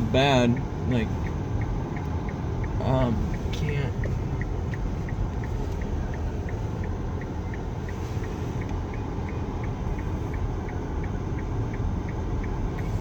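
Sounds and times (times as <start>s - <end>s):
engine and road rumble: 0.0s - 13.0s
indicator relay ticking: 0.0s - 13.0s.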